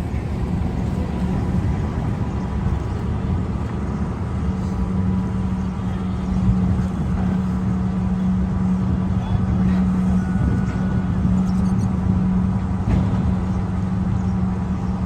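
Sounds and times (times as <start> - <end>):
car engines driving: 0.0 - 15.0
low hum: 0.0 - 15.0.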